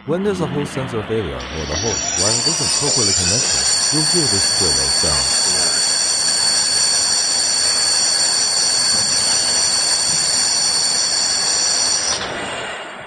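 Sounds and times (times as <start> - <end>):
high-pitched electric motor whine: 1.3 - 12.9
hiss: 1.8 - 12.4.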